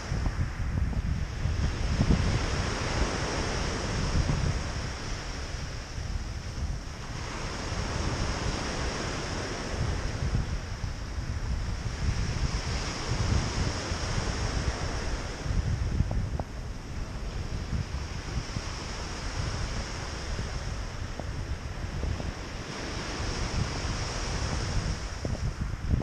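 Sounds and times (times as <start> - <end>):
waves washing on pebble beach: 0.0 - 26.0
wind buffeting microphone: 0.0 - 26.0.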